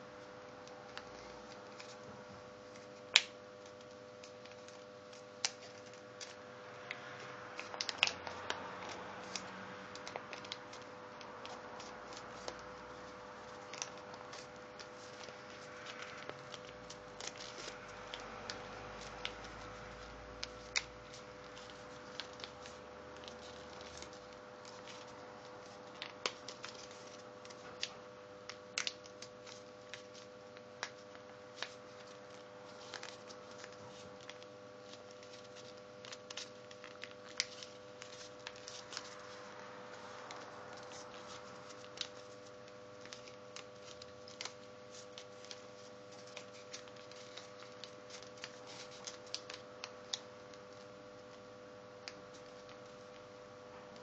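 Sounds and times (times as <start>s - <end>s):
faint hum: 0.0s - 54.0s
paper folding and crinkling: 0.6s - 54.0s.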